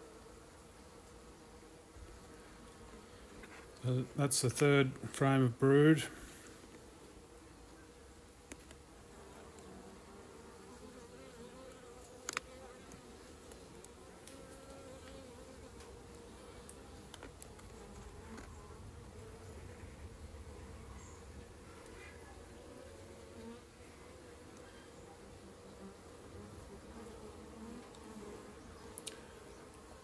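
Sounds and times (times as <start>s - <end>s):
bees buzzing: 5.6s - 30.0s.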